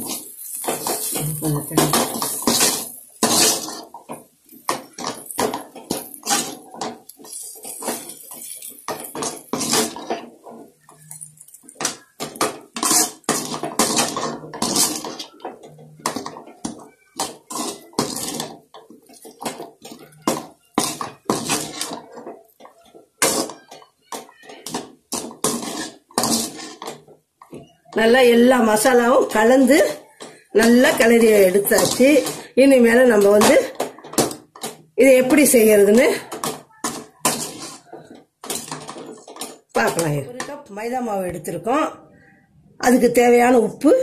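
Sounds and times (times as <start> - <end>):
spoon scraping a wok: 0.0 - 27.7, 28.3 - 32.5, 33.2 - 40.0.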